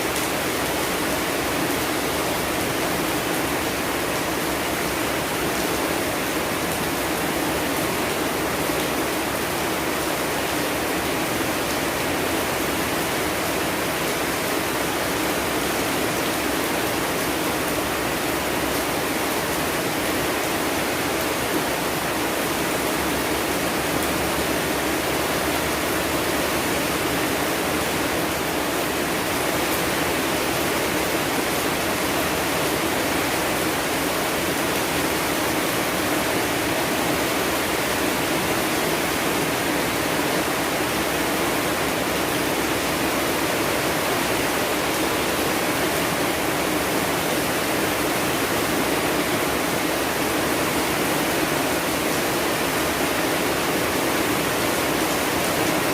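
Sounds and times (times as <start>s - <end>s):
steady rain hissing: 0.0s - 55.9s.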